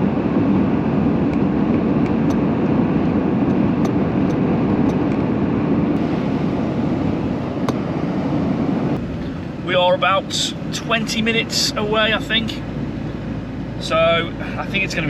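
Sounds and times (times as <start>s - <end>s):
road and engine noise in a van: 0.0s - 15.0s.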